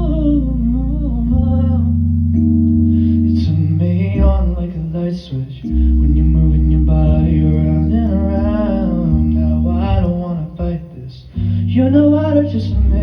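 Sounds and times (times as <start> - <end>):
heavy bass line: 0.0 - 13.0.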